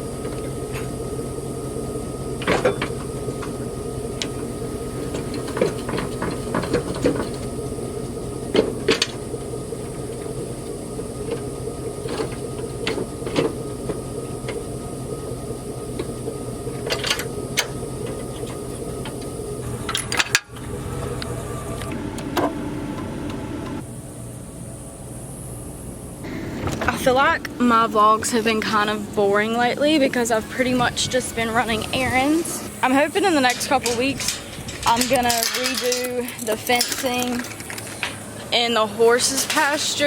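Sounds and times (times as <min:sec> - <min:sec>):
vehicle cabin running noise: 0:00.0 - 0:40.0.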